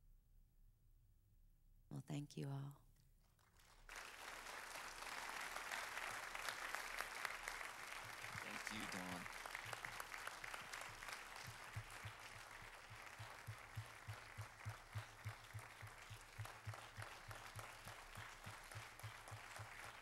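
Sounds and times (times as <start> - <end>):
congregation applauding: 3.4 - 20.0.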